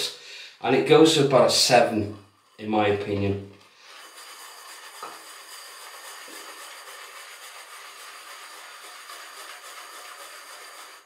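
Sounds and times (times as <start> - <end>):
shaving brush swishing lather: 1.5 - 11.0.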